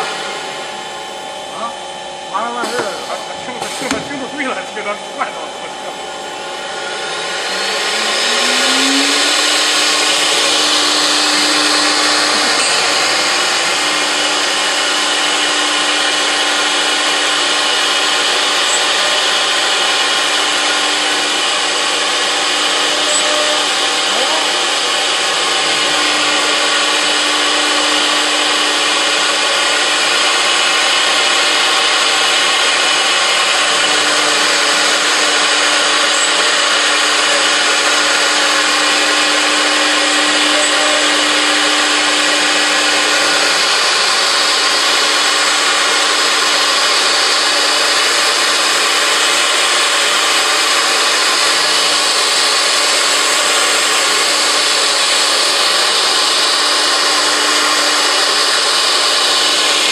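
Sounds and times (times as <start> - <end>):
steady machine tone: 0.0 - 59.9
wood router cutting: 0.0 - 59.9.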